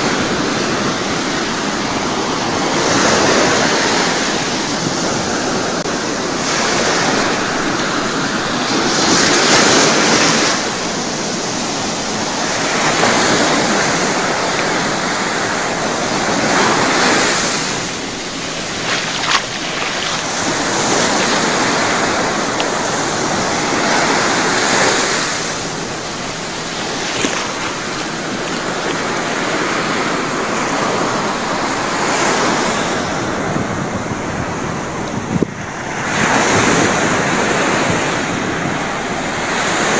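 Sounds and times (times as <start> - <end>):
waves crashing on a beach: 0.0 - 39.9.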